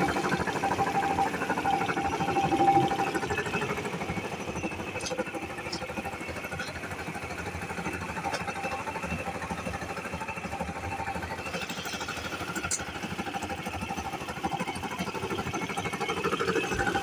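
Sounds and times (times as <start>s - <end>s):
air compressor running: 0.0s - 17.0s.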